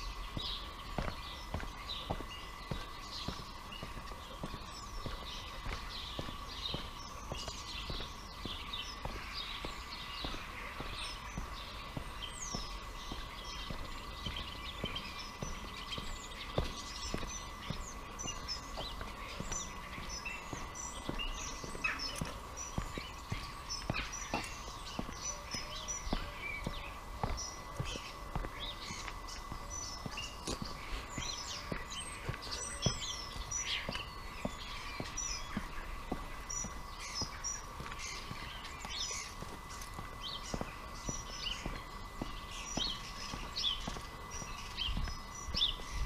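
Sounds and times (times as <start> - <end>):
footsteps on pavement: 0.0 - 46.0
small birds chirping: 0.0 - 46.0.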